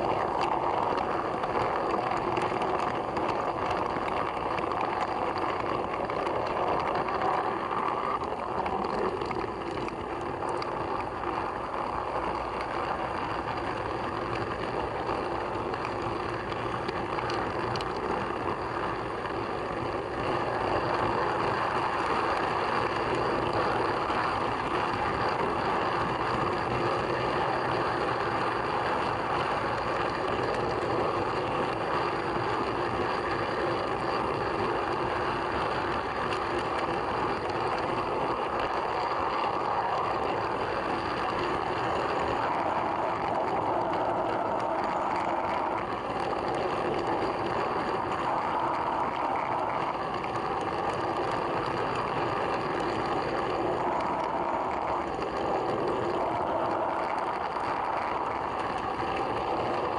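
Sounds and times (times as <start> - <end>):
model train wheels rolling: 0.0 - 59.9.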